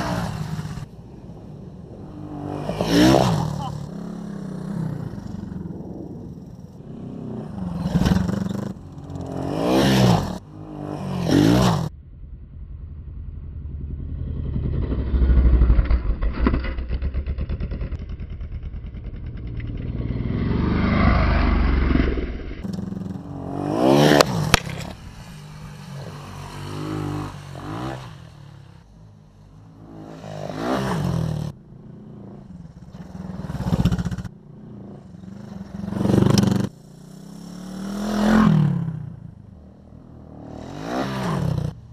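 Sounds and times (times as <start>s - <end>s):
motorcycles revving and passing: 0.0s - 11.9s, 13.6s - 16.0s, 17.1s - 41.9s.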